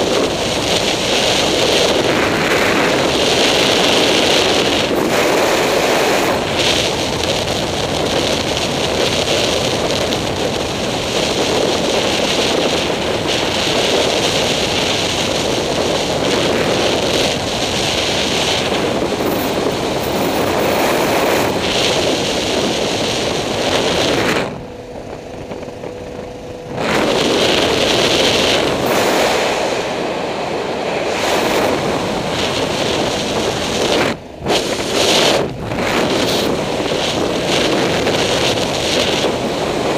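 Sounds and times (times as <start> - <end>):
vehicle running noise: 0.0 - 39.9
wind buffeting microphone: 0.0 - 39.9.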